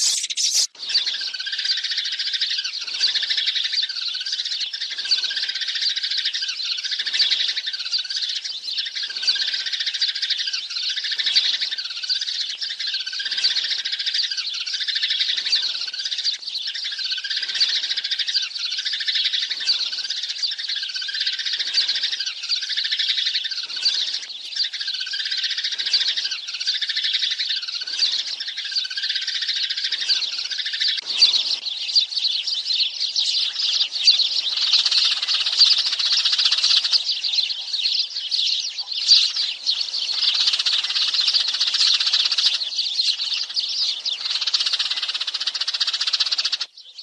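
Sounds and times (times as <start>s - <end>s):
flock of sparrows chirping: 0.0s - 47.0s.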